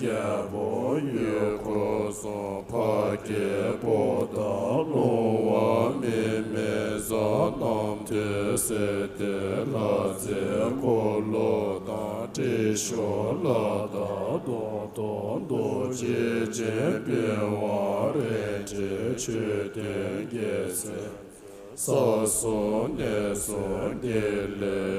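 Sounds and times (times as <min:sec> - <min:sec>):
voices chanting: 0:00.0 - 0:24.9.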